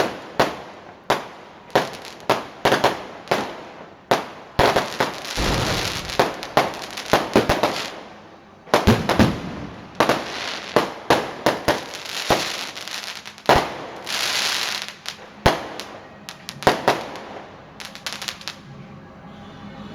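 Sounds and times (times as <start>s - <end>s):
fireworks crackling hiss: 0.0s - 8.2s, 9.9s - 18.6s
fireworks bangs: 1.2s - 18.6s.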